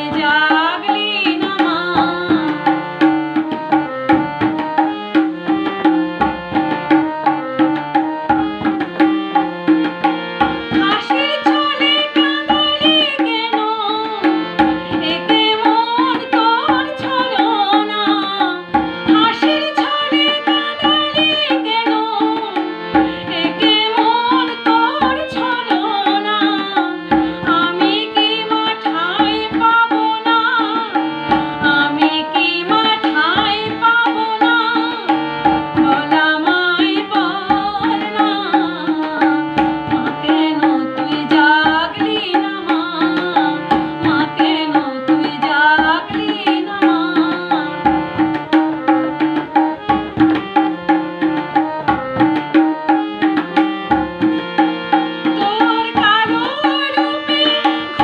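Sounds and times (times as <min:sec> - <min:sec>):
harmonium playing: 0:00.0 - 0:58.0
tabla rhythm: 0:00.0 - 0:58.0
woman singing devotional song: 0:00.0 - 0:58.0.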